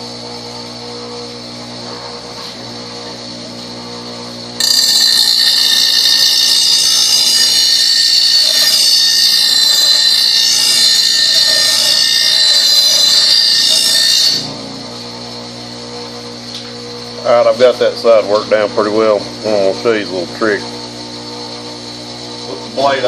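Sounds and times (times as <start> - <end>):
bench grinder grinding steel: 0.6 - 23.0.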